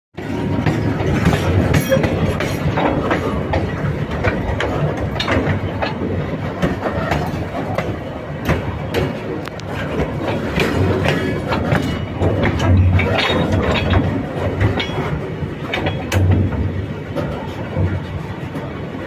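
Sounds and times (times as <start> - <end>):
train rumbling: 0.2 - 19.0
wheels clicking and clanking on track: 0.2 - 19.0.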